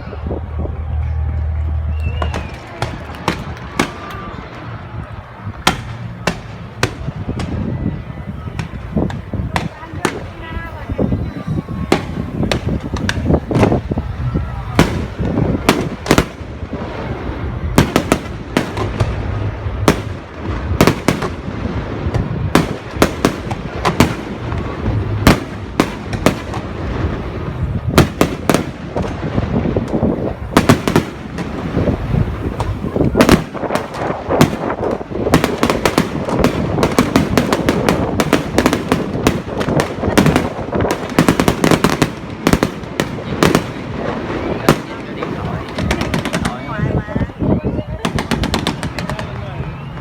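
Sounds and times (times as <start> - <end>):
continuous rumble: 0.0 - 50.0
fireworks bangs: 0.0 - 50.0.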